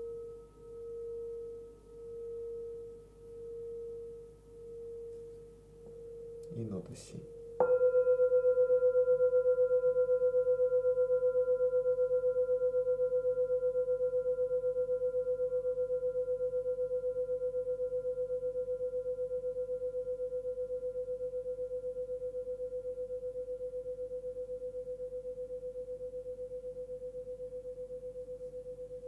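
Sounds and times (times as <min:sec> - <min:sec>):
singing bowl ringing: 0:00.0 - 0:29.0.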